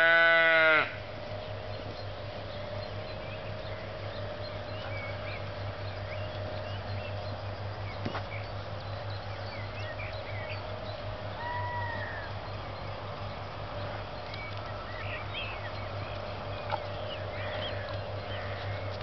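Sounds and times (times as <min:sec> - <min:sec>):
steady low hum: 0:00.0 - 0:19.0
bird chirps: 0:01.3 - 0:19.0.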